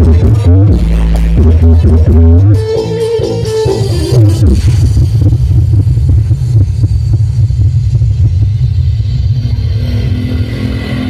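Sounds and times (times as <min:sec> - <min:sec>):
deep pulsing bass music: 0:00.0 - 0:11.0.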